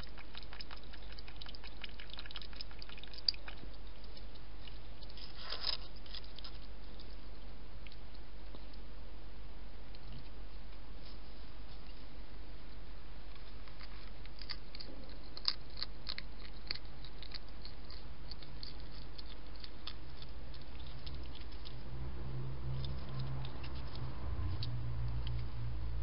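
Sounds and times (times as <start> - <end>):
hedgehog crunching food: 0.0 - 8.9, 9.8 - 11.9, 13.3 - 26.0.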